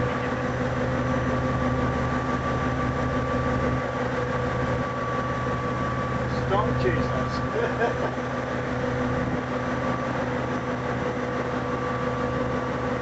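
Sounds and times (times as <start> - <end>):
engine idling hum: 0.0 - 13.0.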